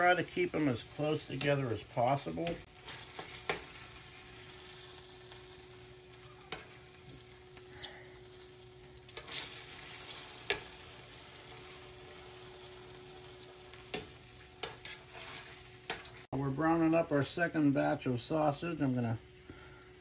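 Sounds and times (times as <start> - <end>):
sausages sizzling in frying pan: 0.0 - 16.3.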